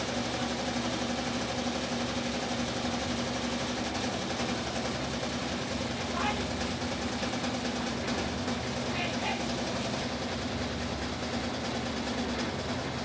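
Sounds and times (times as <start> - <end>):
washing machine churning: 0.0 - 13.0.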